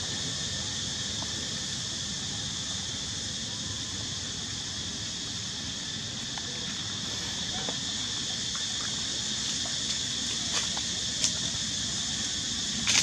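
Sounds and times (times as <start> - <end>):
forest insects droning: 0.0 - 13.0.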